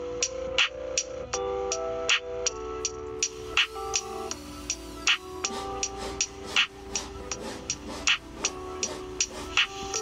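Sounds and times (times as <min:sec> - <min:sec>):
lofi music: 0:00.0 - 0:10.0.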